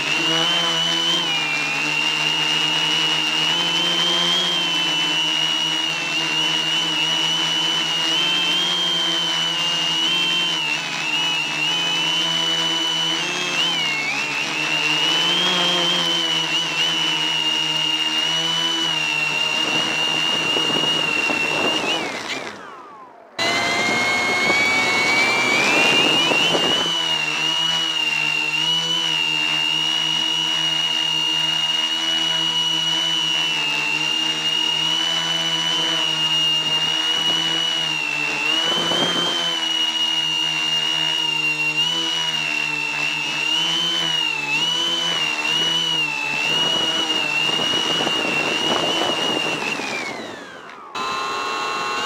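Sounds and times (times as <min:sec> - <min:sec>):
drone propellers whining: 0:00.0 - 0:52.0.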